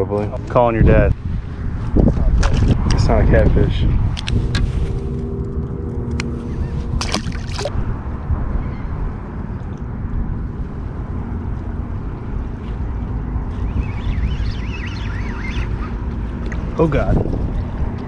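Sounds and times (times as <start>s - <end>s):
water and wind rumble: 0.0s - 18.0s.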